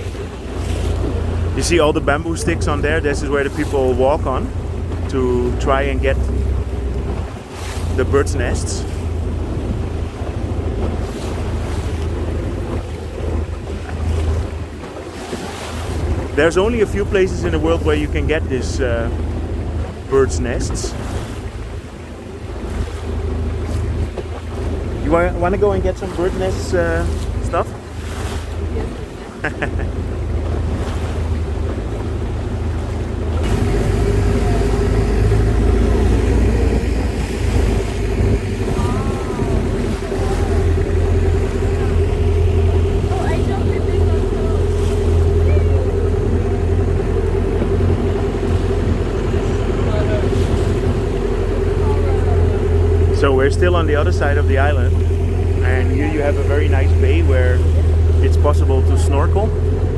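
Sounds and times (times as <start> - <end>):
boat engine droning: 0.0 - 59.9
water noise: 0.0 - 59.9
wind buffeting microphone: 0.0 - 59.9.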